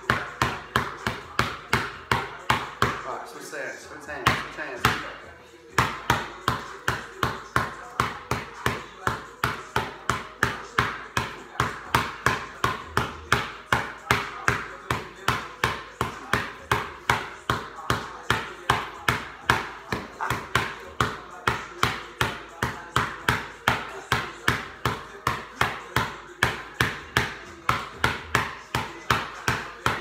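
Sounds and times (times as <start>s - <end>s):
basketball bouncing on concrete: 0.0s - 3.1s, 4.1s - 30.0s.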